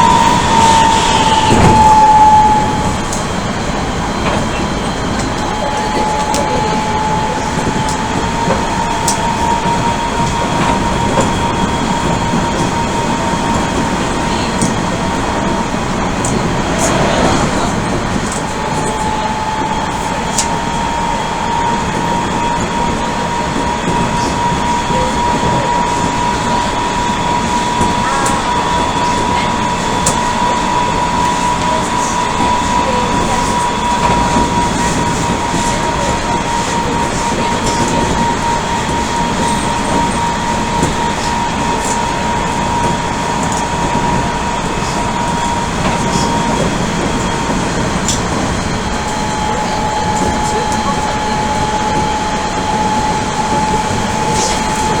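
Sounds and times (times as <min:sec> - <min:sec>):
rail clicks: 0:00.0 - 0:55.0
train wheels rumbling on track: 0:00.0 - 0:55.0.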